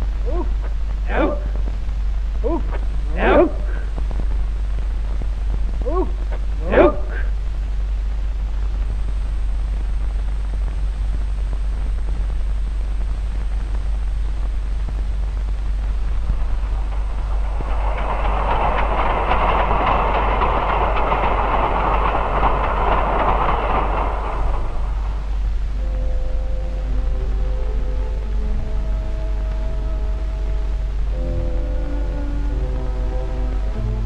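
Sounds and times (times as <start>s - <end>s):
film soundtrack hum and hiss: 0.0s - 34.0s
train rumbling on rails: 0.0s - 34.0s.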